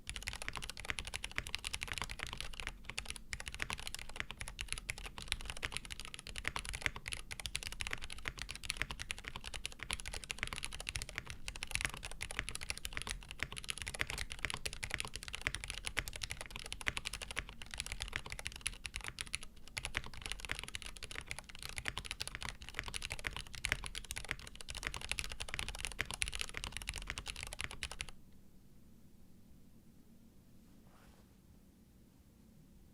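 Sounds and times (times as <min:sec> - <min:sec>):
soft mechanical keyboard clacks: 0:00.0 - 0:28.2.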